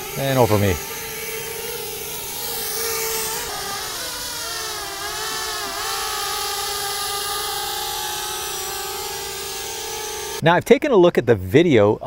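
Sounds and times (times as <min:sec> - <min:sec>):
drone buzzing whine: 0:00.0 - 0:10.4.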